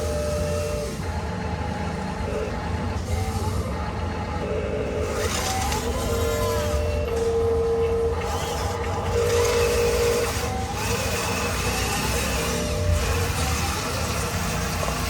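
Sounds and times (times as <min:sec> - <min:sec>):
whine of small electric motors: 0:00.0 - 0:15.0.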